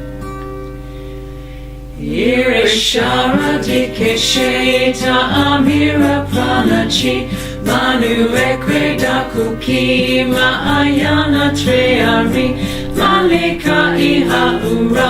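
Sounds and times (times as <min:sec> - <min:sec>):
person singing devotional chant: 0:02.0 - 0:15.0.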